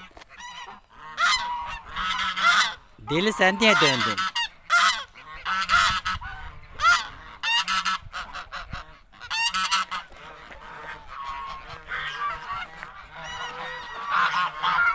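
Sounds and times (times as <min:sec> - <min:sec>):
geese honking: 0:00.0 - 0:14.9.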